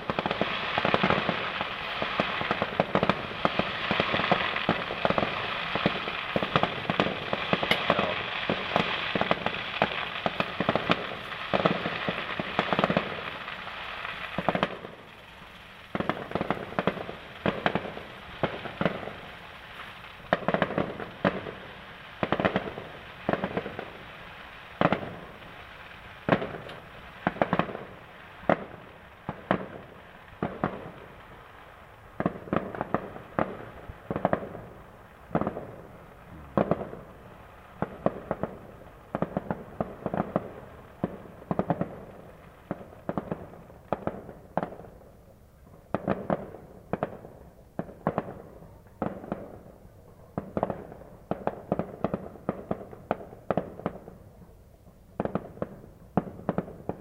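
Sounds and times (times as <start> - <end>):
fireworks bangs: 0.0 - 57.0
small firework pops: 0.0 - 57.0.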